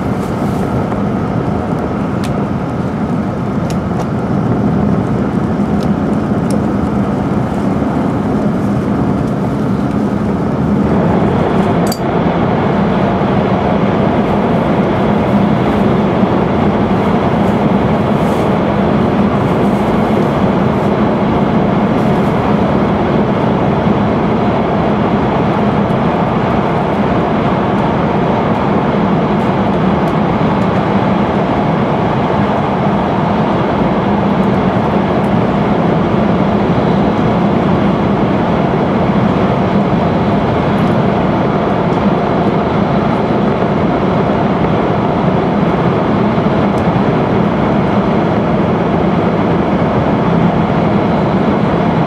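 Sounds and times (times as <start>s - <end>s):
high-speed train cabin rumble: 0.0s - 52.0s.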